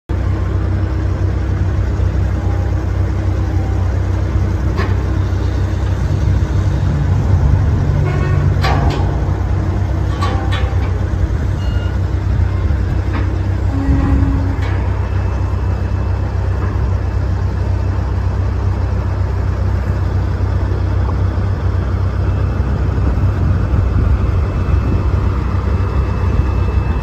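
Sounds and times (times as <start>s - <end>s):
truck engine idling: 0.1s - 27.0s.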